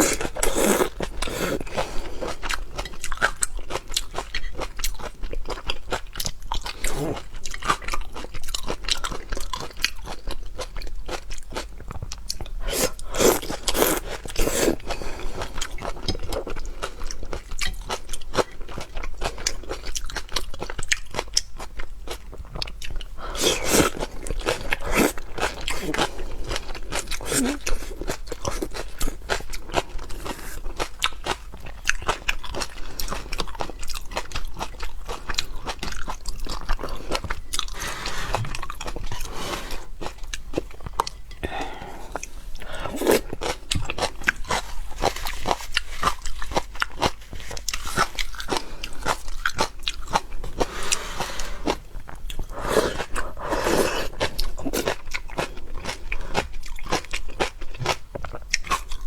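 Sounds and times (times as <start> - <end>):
crunching and chewing seafood: 0.0 - 59.0.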